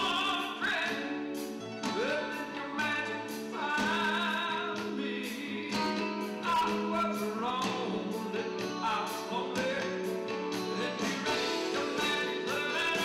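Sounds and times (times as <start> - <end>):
guitars: 0.0 - 13.0
person singing with vibrato: 0.0 - 13.0.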